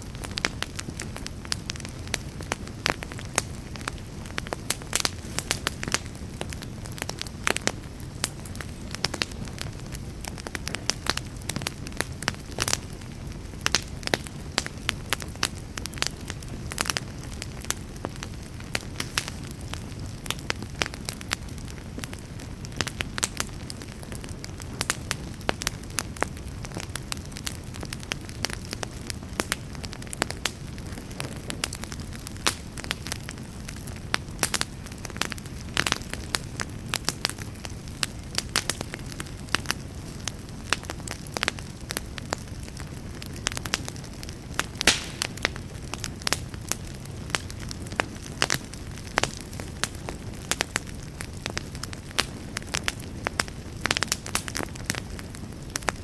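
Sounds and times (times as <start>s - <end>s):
low fire rumble: 0.0s - 56.0s
wood campfire crackling: 0.0s - 56.0s.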